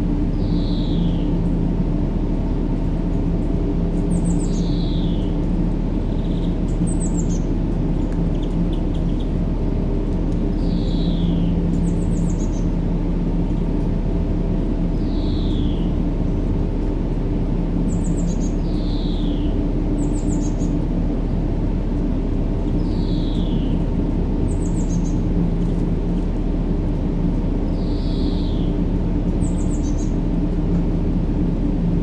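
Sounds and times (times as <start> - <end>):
low rumbling noise with hum: 0.0 - 32.0.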